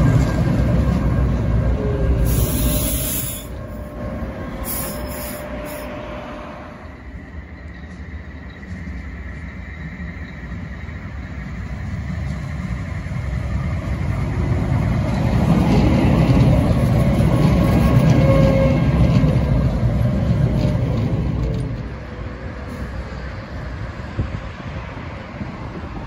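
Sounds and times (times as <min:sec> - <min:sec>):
tram passing on rails: 0:00.0 - 0:26.0.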